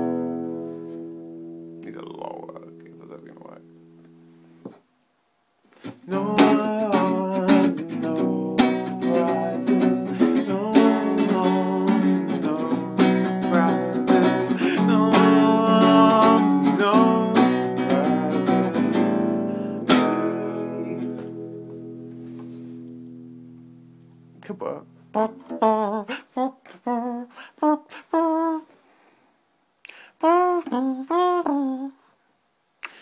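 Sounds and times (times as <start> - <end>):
acoustic guitar chords: 0.0 - 4.6, 5.8 - 28.6.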